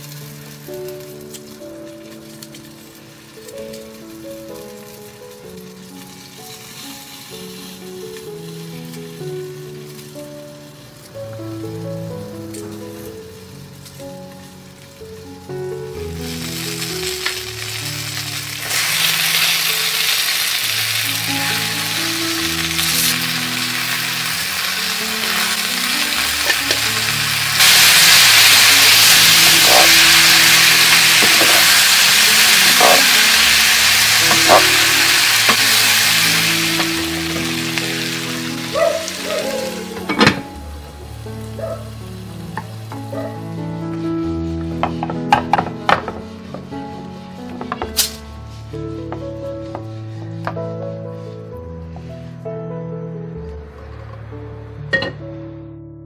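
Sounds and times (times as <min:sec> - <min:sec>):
peppers sizzling in a frying pan: 0:00.0 - 0:48.3.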